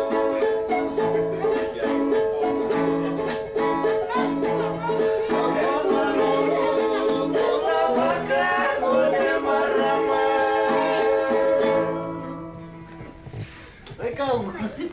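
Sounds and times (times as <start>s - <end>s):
voices singing: 0.0s - 12.8s
strummed guitar: 0.0s - 13.7s.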